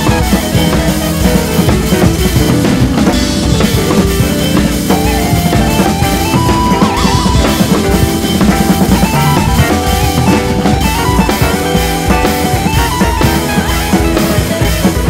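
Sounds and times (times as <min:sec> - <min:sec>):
drum kit beat: 0:00.0 - 0:15.0
guitar: 0:00.0 - 0:15.0.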